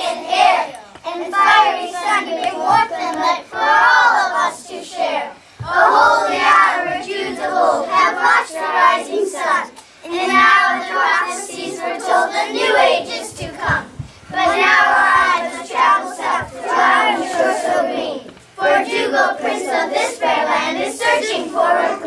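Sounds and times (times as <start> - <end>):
young children singing: 0.0 - 22.0.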